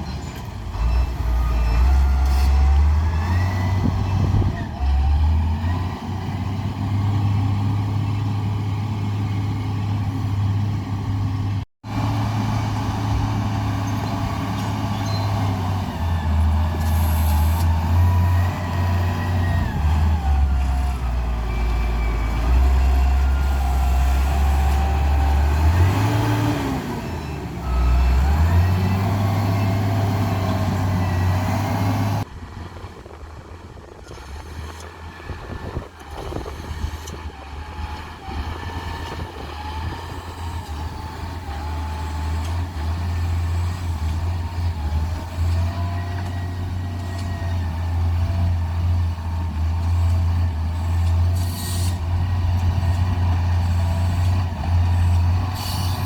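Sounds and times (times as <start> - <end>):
heavy engine under load: 0.0 - 56.0.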